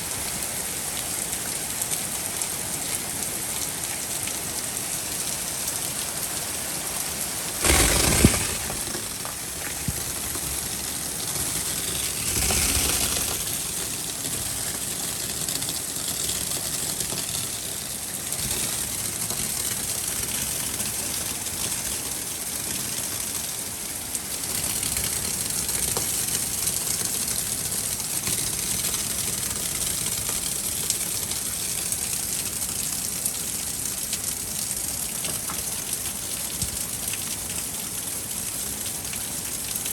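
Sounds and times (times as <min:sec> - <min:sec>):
steady downpour of rain: 0:00.0 - 0:39.9.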